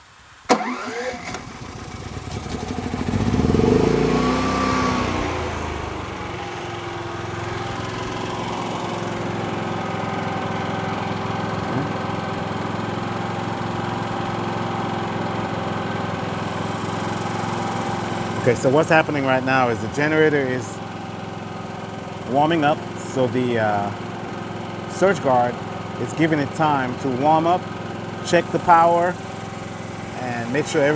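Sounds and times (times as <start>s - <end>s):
generator engine running: 0.0s - 30.9s.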